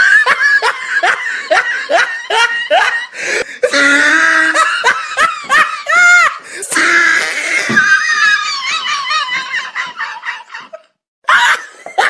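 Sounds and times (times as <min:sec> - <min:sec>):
man laughing: 0:00.0 - 0:03.1, 0:03.8 - 0:06.4, 0:07.2 - 0:12.0.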